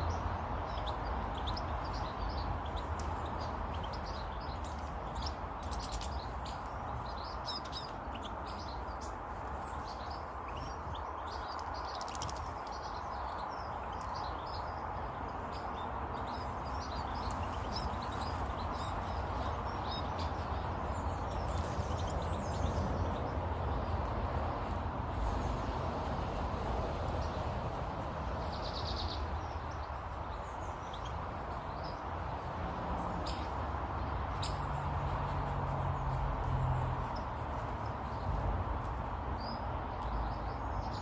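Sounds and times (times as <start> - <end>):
rushing background noise: 0.0 - 41.0
small birds chirping: 0.0 - 41.0.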